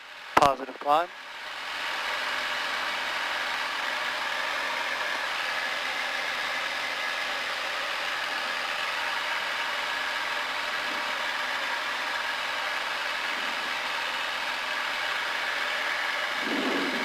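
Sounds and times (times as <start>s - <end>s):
propeller plane engine at full power: 0.0s - 17.0s.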